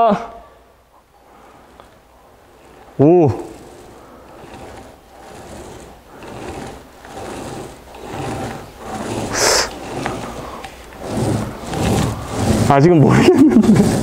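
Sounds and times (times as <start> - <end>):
paint roller swishing: 0.9 - 14.0.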